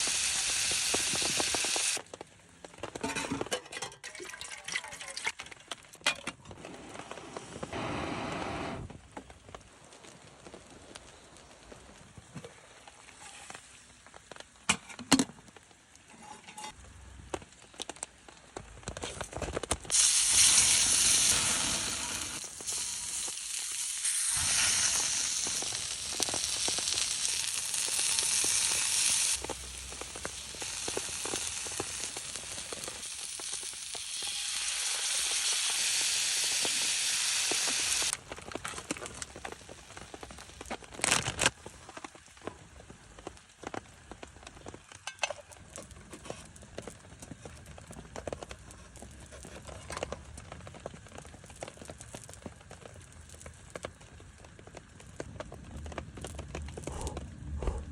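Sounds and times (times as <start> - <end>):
chicken sizzling over fire: 0.0 - 3.0, 6.5 - 57.5.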